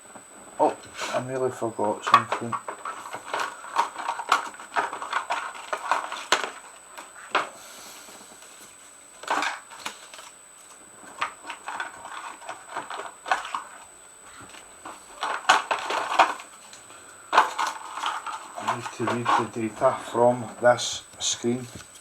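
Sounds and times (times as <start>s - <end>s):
small objects handled on workbench: 2.0s - 22.0s.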